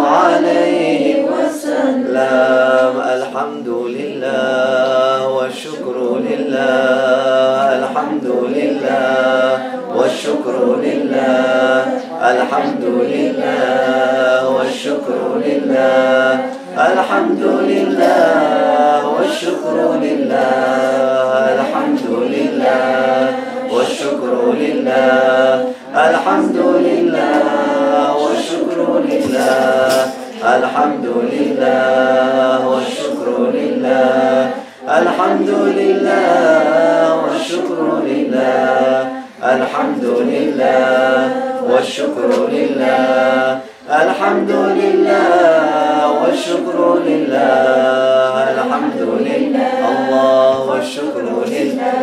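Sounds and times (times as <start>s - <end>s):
group chanting: 0.0s - 52.0s.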